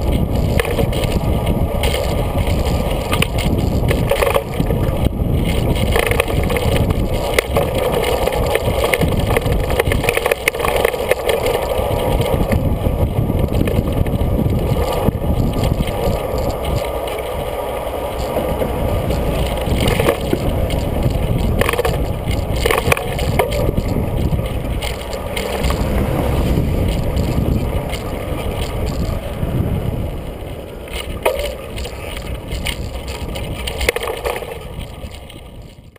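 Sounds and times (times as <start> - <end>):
bicycle tyres rumbling on road: 0.0 - 35.9
bike rattling over bumps: 0.0 - 35.9.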